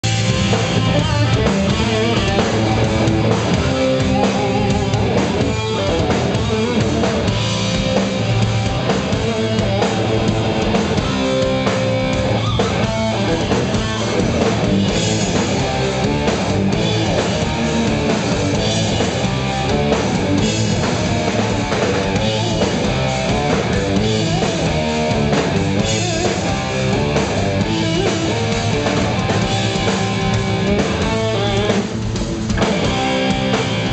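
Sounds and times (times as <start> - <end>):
drum kit: 0.0 - 33.9
electric guitars: 0.0 - 33.9.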